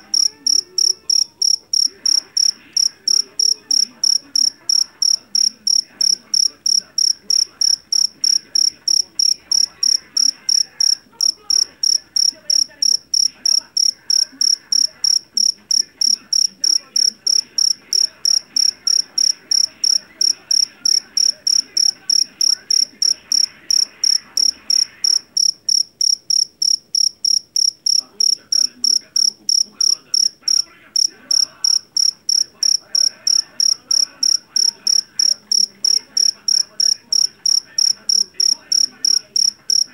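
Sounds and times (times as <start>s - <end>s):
cricket chirping shrilly: 0.0s - 39.9s.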